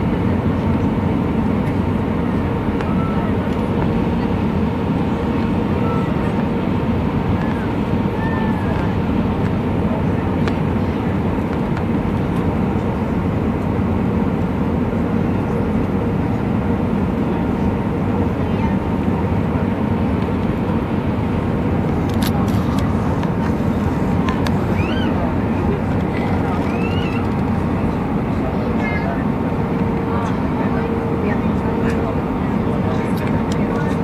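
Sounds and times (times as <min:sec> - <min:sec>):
jet engines and rushing air: 0:00.0 - 0:34.0.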